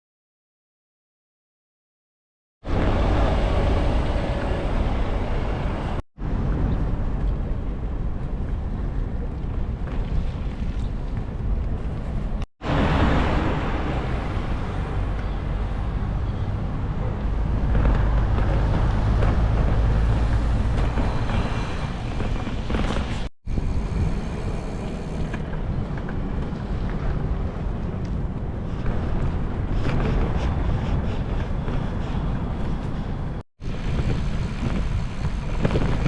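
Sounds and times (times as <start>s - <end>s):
wind buffeting microphone: 2.6s - 36.0s.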